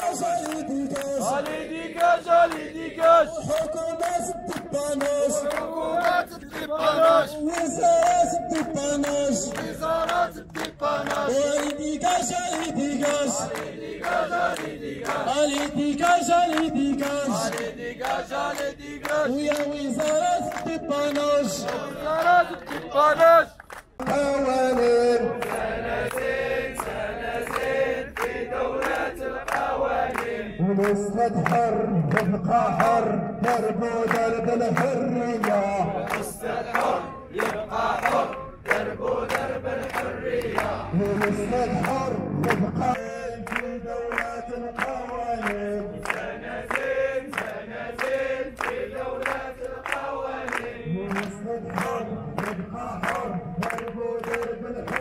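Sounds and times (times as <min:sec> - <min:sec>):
crowd chanting: 0:00.0 - 0:23.5, 0:25.0 - 0:30.8, 0:34.7 - 0:55.0
rhythmic hand-clapping: 0:00.0 - 0:55.0.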